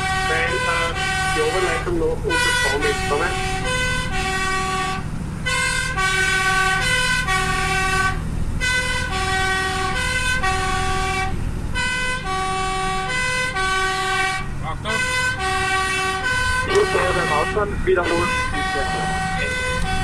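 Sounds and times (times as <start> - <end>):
fire engine two-tone siren: 0.0 - 20.0
truck engine running: 0.0 - 20.0.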